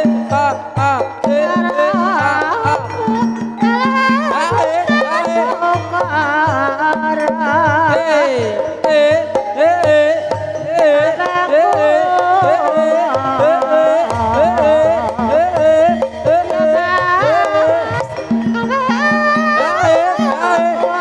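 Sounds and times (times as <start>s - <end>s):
gamelan music: 0.0s - 21.0s
hand drum strokes: 0.0s - 21.0s
person singing ornamented melody: 0.0s - 21.0s.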